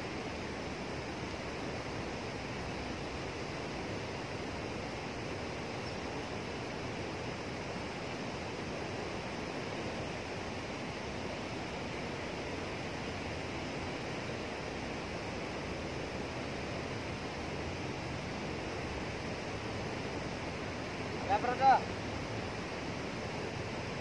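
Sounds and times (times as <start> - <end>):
turbulent water rushing: 0.0 - 24.0.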